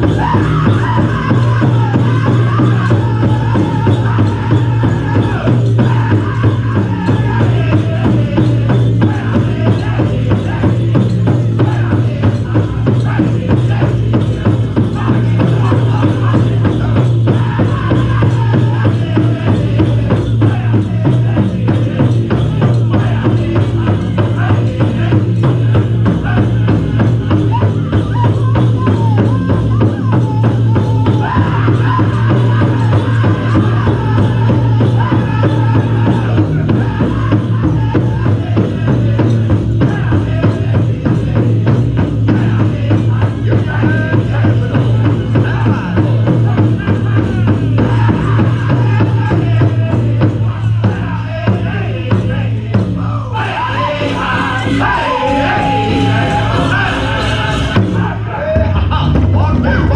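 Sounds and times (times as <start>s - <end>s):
group singing: 0.0s - 59.9s
large drum steady beat: 0.0s - 59.9s.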